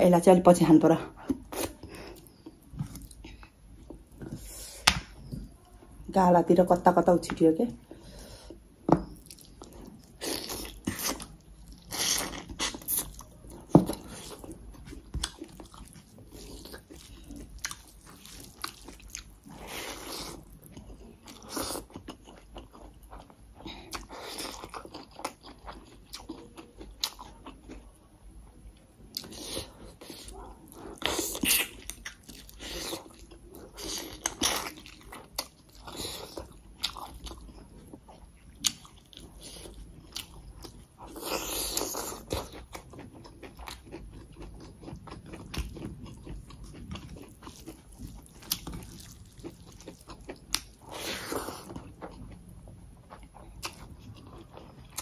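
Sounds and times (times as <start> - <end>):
person chewing and eating: 1.0 - 5.8, 7.8 - 55.0.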